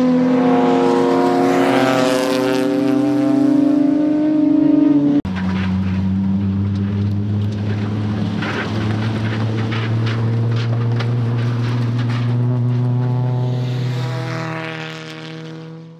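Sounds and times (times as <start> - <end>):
race car engine at steady revs: 0.0 - 15.9.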